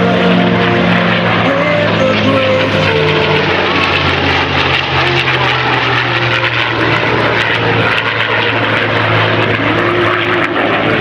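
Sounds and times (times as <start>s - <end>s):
propeller engine drone: 0.0s - 11.0s
rushing jet noise: 0.0s - 11.0s.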